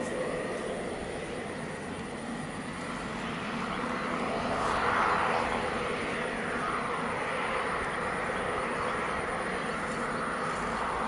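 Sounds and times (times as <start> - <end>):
turboprop engines running: 0.0 - 11.0.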